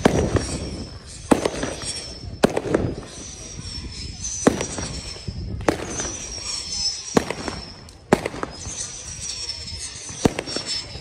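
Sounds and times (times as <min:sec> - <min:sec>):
fireworks bangs: 0:00.0 - 0:11.0
whistling rockets: 0:00.0 - 0:11.0.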